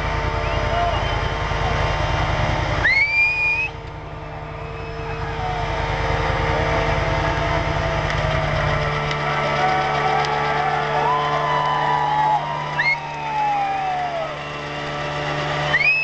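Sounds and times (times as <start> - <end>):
car engine revving hard: 0.0 - 16.0
high tyre squeal: 0.0 - 16.0.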